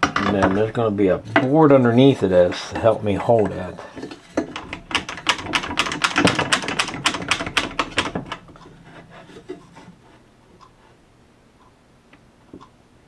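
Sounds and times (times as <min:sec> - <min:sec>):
wood knocking and scraping: 0:00.0 - 0:11.0.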